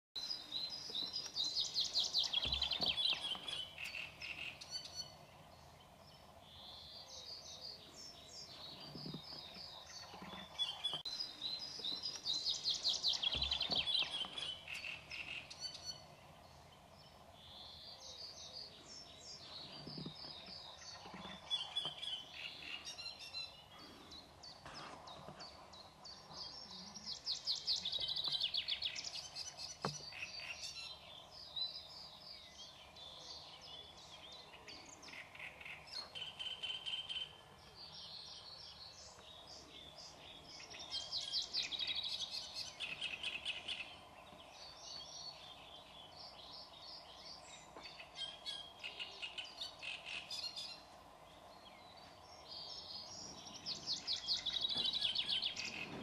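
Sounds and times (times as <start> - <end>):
bird chirps: 0.2 - 56.0.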